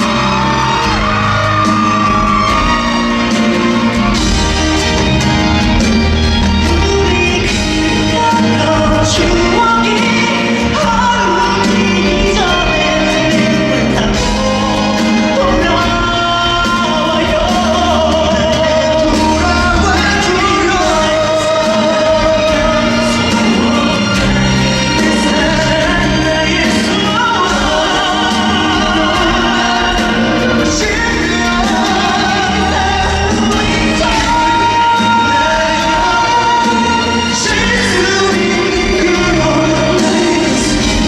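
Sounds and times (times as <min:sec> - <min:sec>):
instrumental accompaniment: 0:00.0 - 0:41.0
man singing: 0:00.0 - 0:41.0.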